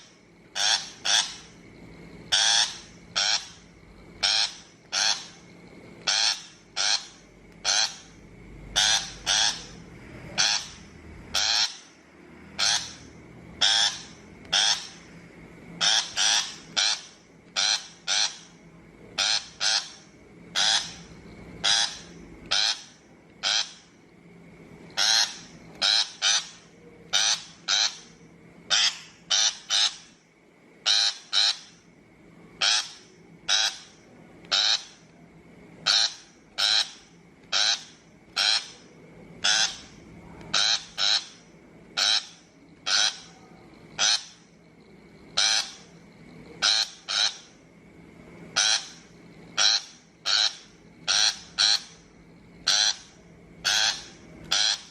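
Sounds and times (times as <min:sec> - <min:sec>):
shrike harsh grating calls: 0:00.0 - 0:15.2, 0:15.8 - 0:24.0, 0:24.9 - 0:30.2, 0:30.8 - 0:31.9, 0:32.6 - 0:35.1, 0:35.8 - 0:44.6, 0:45.3 - 0:46.0, 0:46.6 - 0:47.6, 0:48.5 - 0:54.9.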